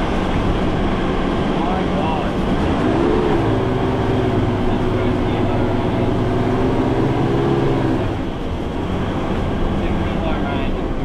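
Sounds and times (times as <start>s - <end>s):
car engine labouring: 0.0s - 11.0s
road rumble: 0.0s - 11.0s.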